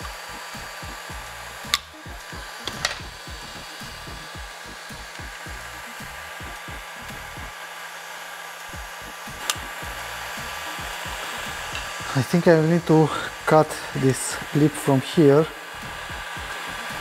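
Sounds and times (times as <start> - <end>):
heat gun blowing: 0.0 - 17.0.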